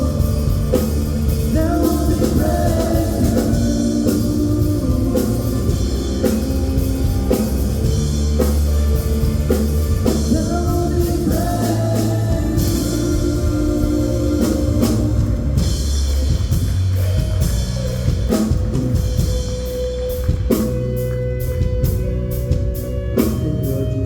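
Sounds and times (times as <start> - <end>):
drum kit: 0.0 - 24.0
guitar: 0.0 - 24.0
held low bass: 0.0 - 24.0.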